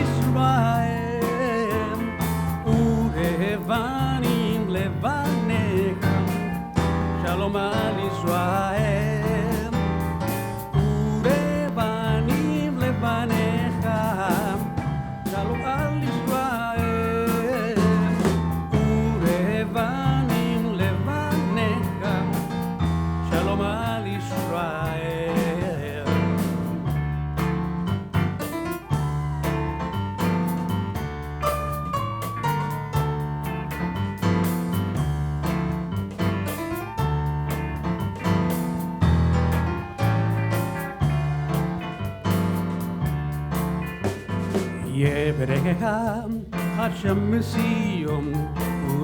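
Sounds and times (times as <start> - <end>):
keyboard playing chords: 0.0 - 45.2
band backing: 0.0 - 49.0
bass: 0.0 - 49.0
steady beat: 0.0 - 49.0.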